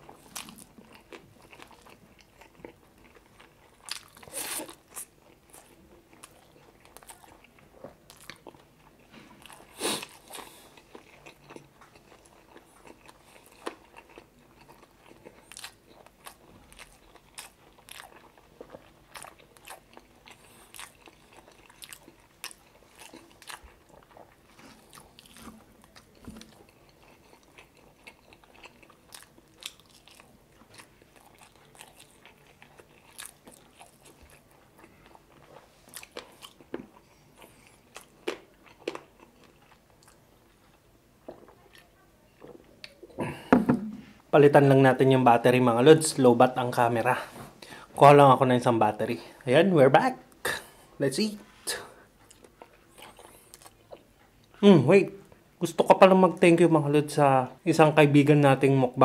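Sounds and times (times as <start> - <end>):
man chewing food: 0.0 - 44.3, 50.2 - 54.6.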